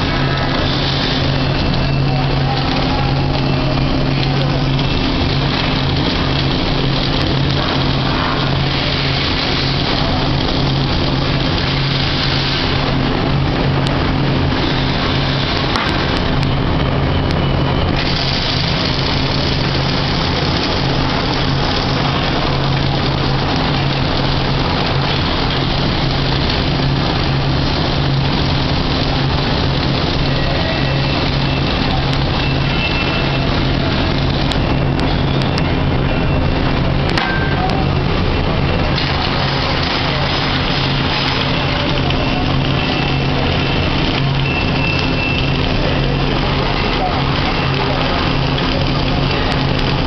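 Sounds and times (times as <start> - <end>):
welding arc crackling: 0.0 - 50.0.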